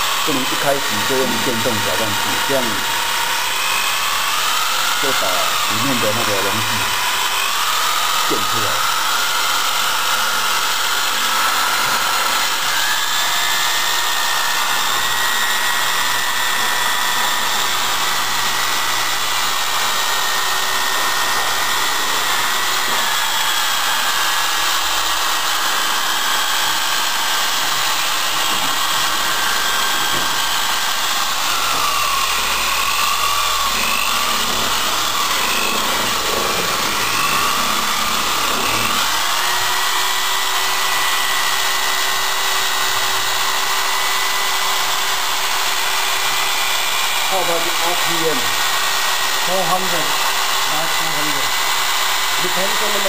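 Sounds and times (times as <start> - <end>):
electric drill motor whine: 0.0 - 53.0.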